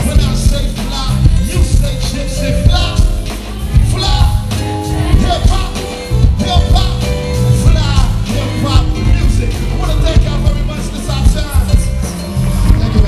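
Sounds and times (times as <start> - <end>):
amplified voice: 0.0 - 12.0
loud beat with heavy bass: 0.0 - 13.0.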